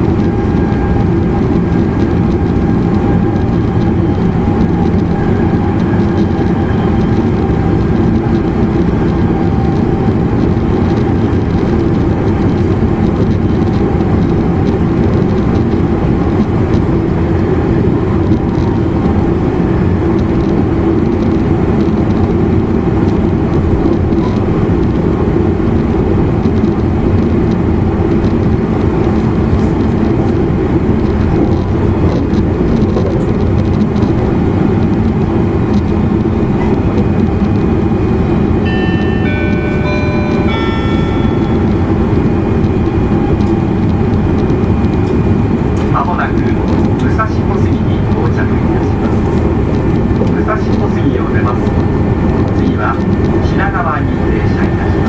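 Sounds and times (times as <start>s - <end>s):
traction motor hum: 0.0s - 55.0s
train wheels rolling on rails: 0.0s - 55.0s.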